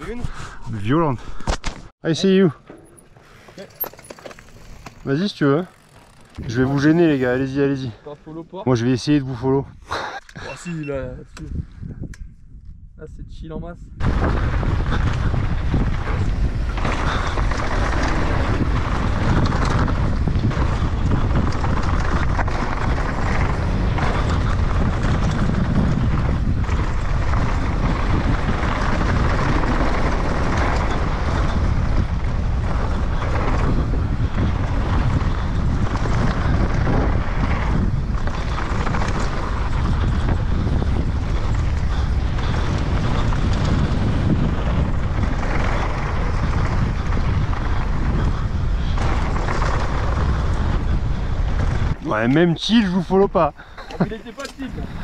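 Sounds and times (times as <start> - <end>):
bike rattling and knocking: 2.5 - 8.0, 14.0 - 55.0
tyres rumbling on rocky dirt: 2.5 - 8.1, 14.0 - 55.0
wind on camera microphone: 4.7 - 8.0, 8.7 - 55.0.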